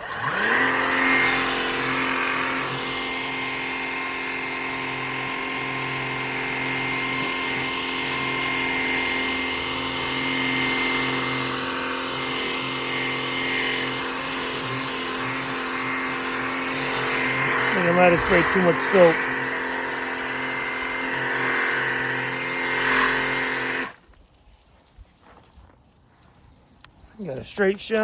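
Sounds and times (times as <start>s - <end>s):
pressure washer motor hum: 0.0s - 24.0s.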